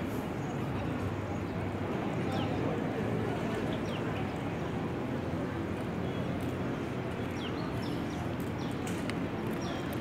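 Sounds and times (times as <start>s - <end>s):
outdoor background hubbub: 0.0s - 10.0s.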